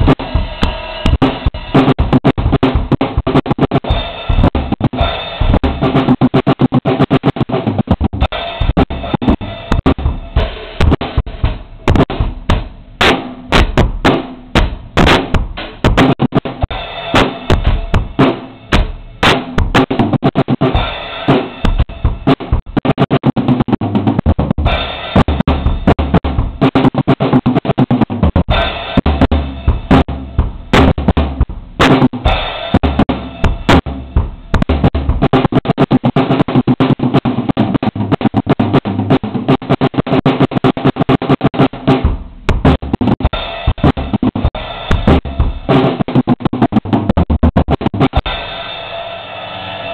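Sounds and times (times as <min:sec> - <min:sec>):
bass drum: 0:00.0 - 0:48.4
snare drum strokes: 0:00.0 - 0:49.9.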